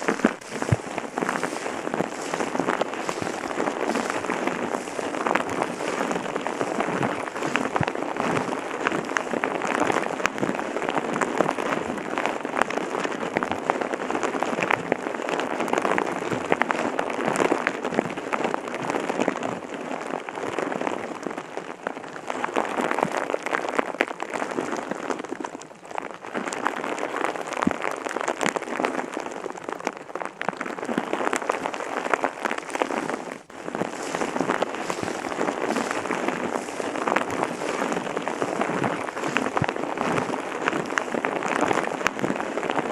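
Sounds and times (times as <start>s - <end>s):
steady rain patter: 0.0s - 42.9s.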